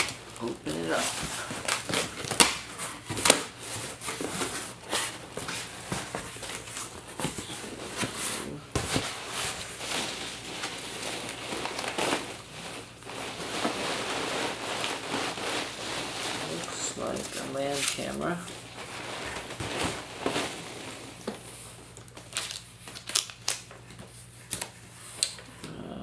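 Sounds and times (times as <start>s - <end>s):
packing material rustling: 0.0s - 25.4s.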